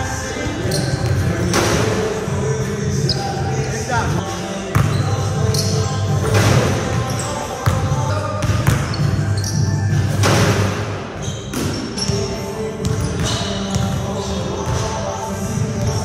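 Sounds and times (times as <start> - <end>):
background music with bass: 0.0 - 16.0.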